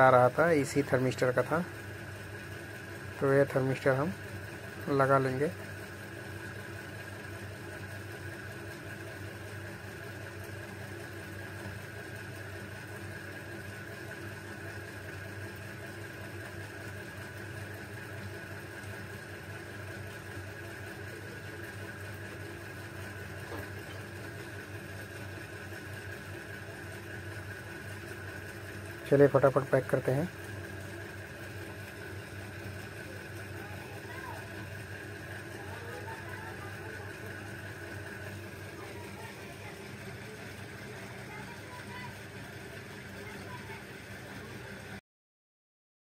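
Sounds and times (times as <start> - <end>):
low background hum: 0.0 - 45.0.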